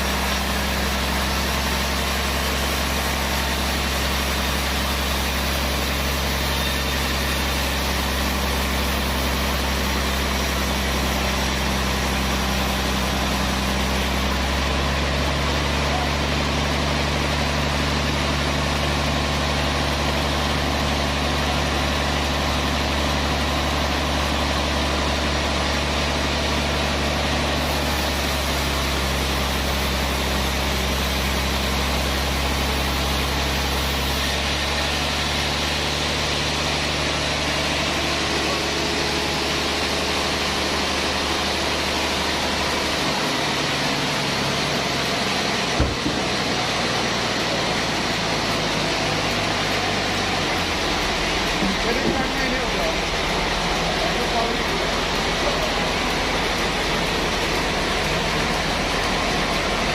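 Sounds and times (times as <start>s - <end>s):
low engine hum: 0.0s - 59.9s
sawmill machinery running: 0.0s - 59.9s.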